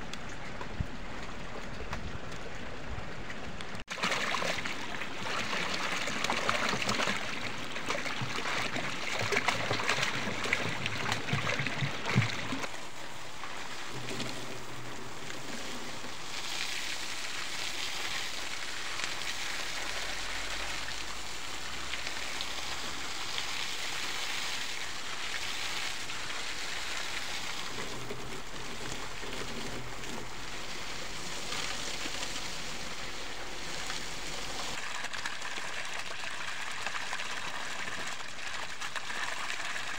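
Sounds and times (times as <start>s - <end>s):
water glugging and splashing: 0.0s - 39.9s
hose water spraying onto mud: 3.8s - 39.9s.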